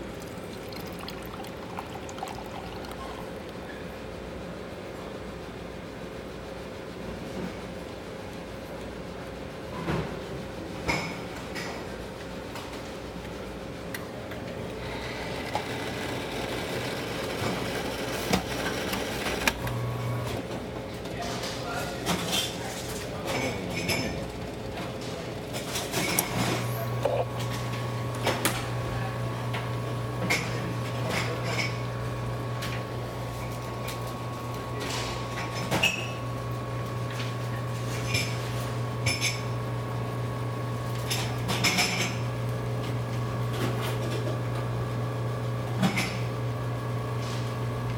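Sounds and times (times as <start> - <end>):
coffee machine humming: 0.0 - 7.0, 10.8 - 47.9.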